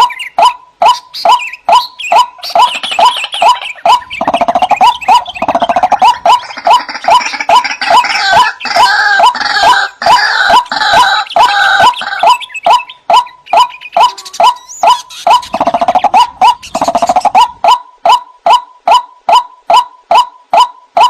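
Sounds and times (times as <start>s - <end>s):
waterhen calling: 0.0s - 21.0s
fast pulsed croaking: 0.8s - 21.0s.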